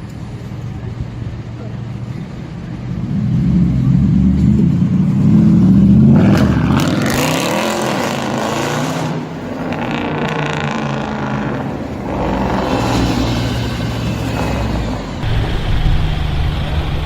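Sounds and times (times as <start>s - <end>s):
car engine accelerating: 1.6s - 17.0s.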